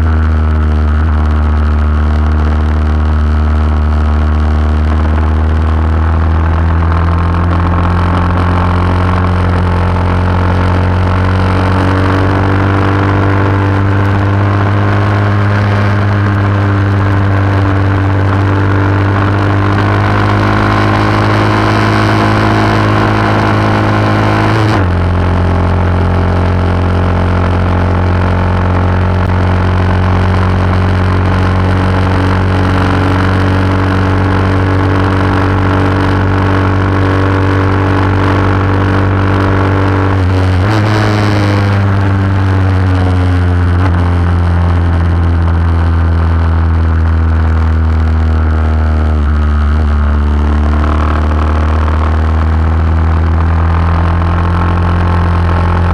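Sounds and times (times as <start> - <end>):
motorcycle engine revving under load: 0.0 - 55.9.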